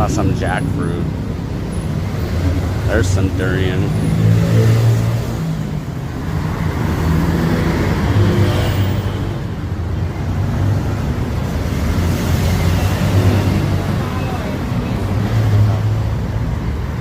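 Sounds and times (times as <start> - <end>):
street noise: 0.0 - 17.0
vehicle engines humming: 0.0 - 17.0.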